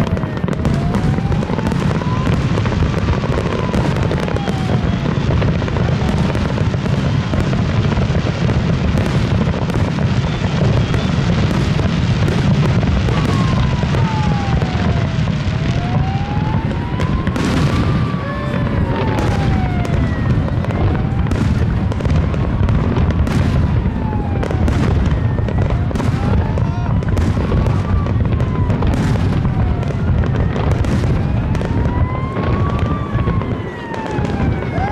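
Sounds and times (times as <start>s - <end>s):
fireworks booming and crackling: 0.0s - 34.9s.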